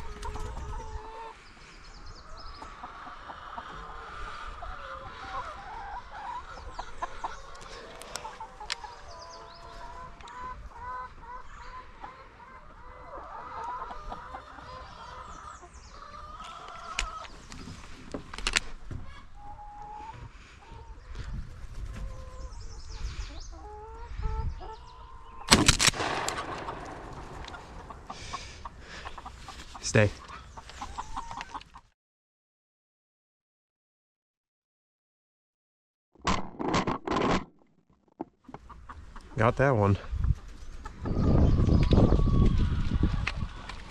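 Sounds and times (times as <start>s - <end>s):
hens clucking: 0.0s - 1.6s, 2.2s - 31.9s, 38.4s - 43.9s.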